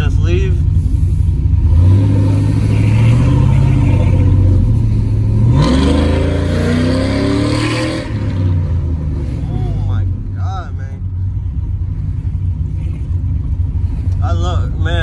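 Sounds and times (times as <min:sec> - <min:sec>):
engine accelerating: 0:00.0 - 0:15.0.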